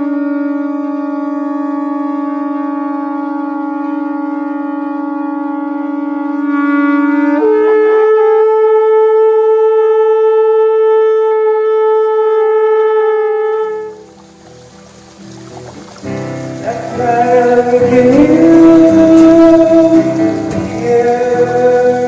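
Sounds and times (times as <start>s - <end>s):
shofar blast: 0.0s - 14.0s, 16.9s - 22.0s.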